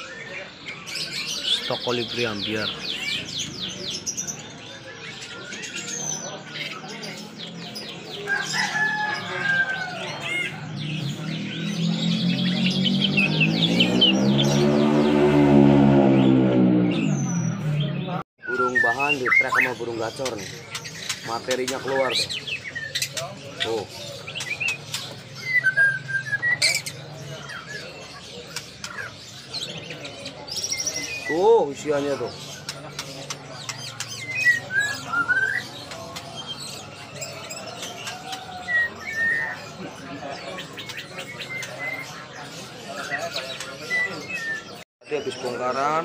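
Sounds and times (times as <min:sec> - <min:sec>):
songbirds chirping and twittering: 0:00.0 - 0:46.0.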